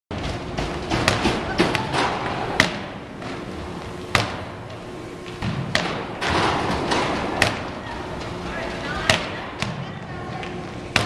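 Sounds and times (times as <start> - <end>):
gymnasium background noise: 0.1 - 11.0.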